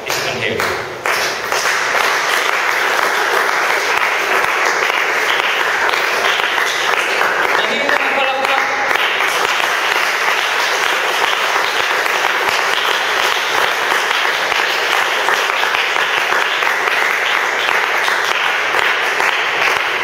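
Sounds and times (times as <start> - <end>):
congregation clapping: 0.0 - 20.0.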